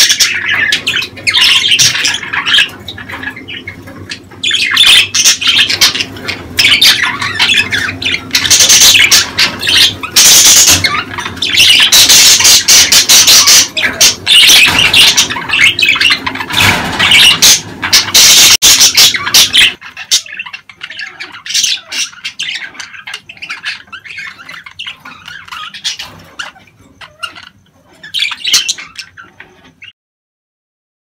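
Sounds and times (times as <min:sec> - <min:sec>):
budgerigars chattering and squawking: 0:00.0 - 0:29.9.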